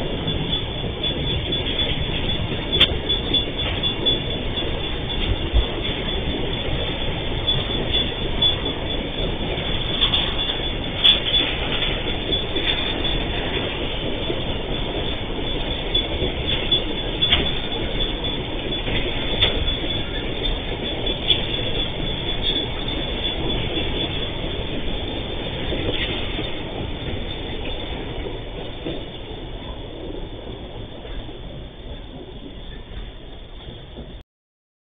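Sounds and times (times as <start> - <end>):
freight train rumbling and rattling: 0.0 - 34.2
wheels squealing: 0.0 - 34.2.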